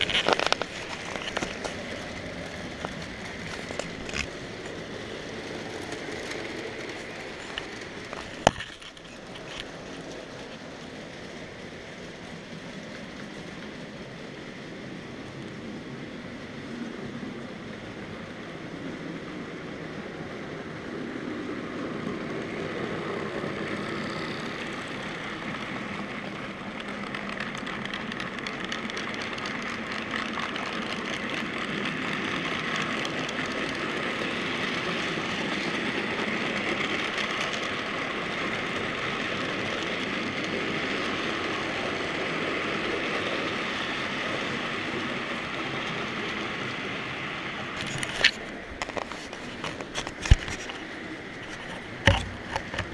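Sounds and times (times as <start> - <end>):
model train wheels rattling on rails: 0.0 - 52.9.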